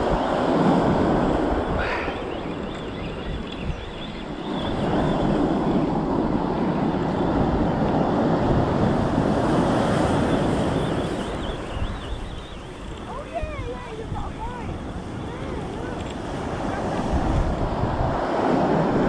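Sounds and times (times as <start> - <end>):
sea waves washing onto beach: 0.0 - 19.0
wind buffeting microphone: 0.0 - 19.0.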